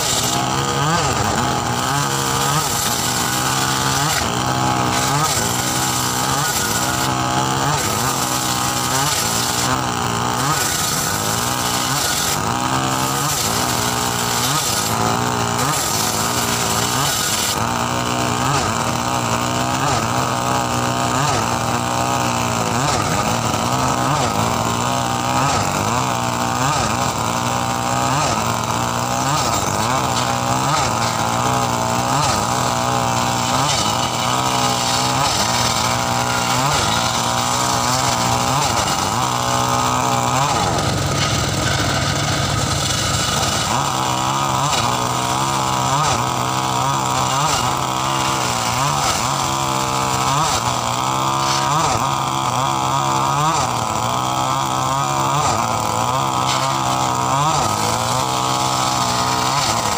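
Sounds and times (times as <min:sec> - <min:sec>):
circular saw engine running: 0:00.0 - 0:59.9.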